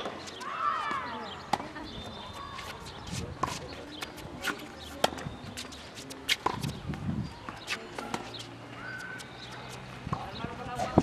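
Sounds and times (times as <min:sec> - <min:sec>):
tennis ball bouncing on court: 0:00.0 - 0:11.0.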